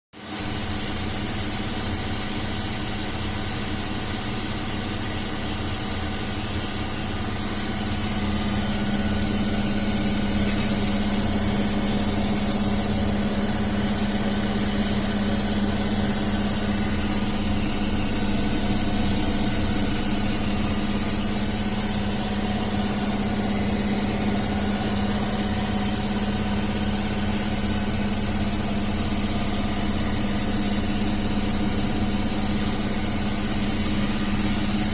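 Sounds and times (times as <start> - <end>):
washing machine humming: 0.3 - 34.9.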